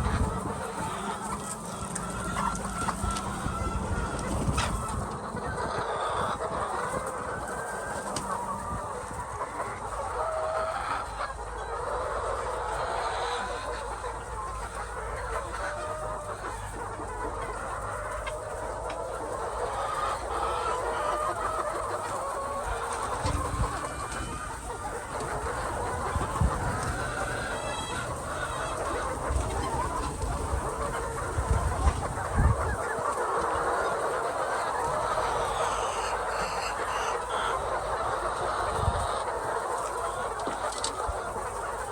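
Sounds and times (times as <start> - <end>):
hens clucking: 0.0 - 41.9.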